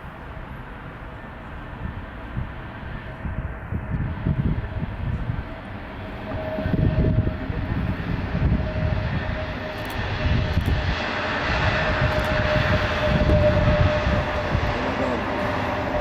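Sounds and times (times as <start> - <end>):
jet engines whining: 2.1 - 16.0.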